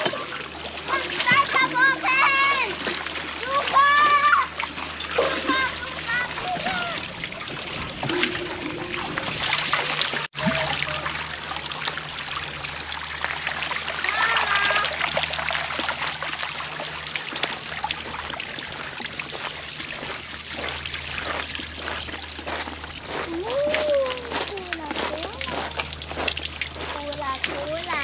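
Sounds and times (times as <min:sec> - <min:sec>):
small water splashes: 0:00.0 - 0:28.0
water running and trickling: 0:00.0 - 0:28.0.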